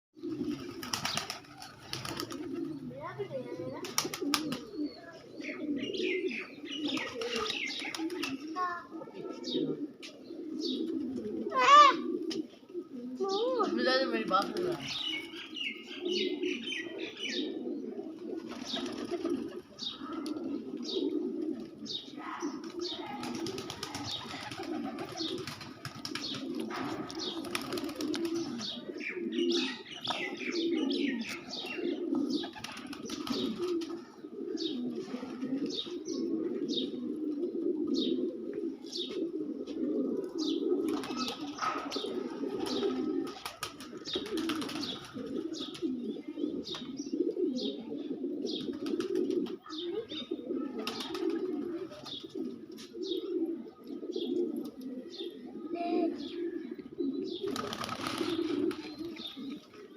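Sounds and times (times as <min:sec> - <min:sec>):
birds cooing: 0:00.2 - 0:59.9.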